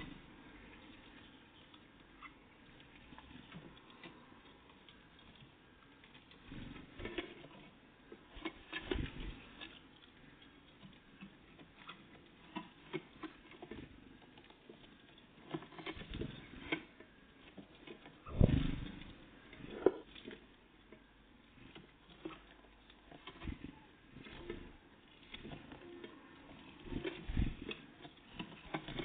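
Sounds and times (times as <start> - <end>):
birds pecking at a feeder: 0.0 - 29.0.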